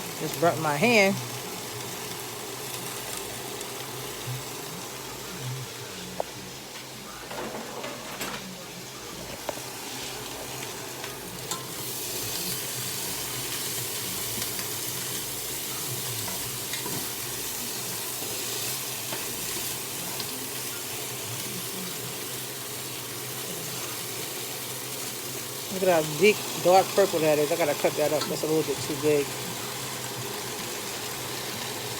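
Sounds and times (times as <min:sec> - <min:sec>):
cabbage sizzling in a pot: 0:00.0 - 0:31.9.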